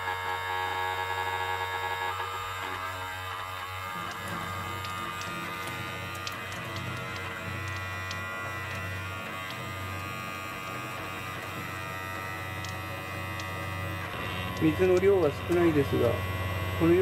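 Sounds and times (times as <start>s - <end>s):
electric pump buzzing hum: 0.0s - 17.0s
thin water stream trickling: 3.2s - 17.0s.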